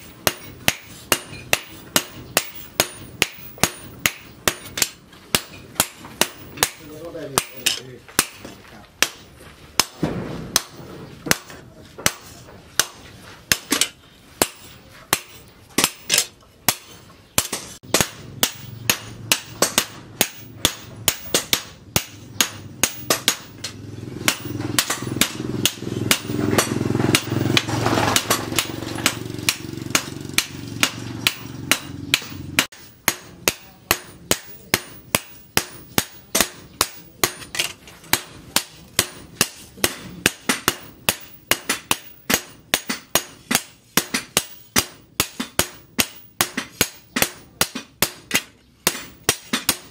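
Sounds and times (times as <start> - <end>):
hammers ringing on anvil: 0.2 - 10.0, 10.6 - 49.9.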